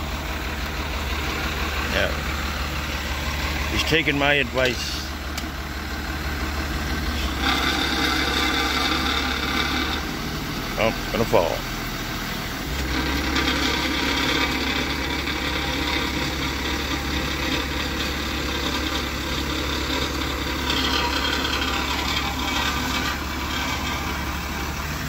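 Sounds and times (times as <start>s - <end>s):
truck engine running under load: 0.0s - 25.0s.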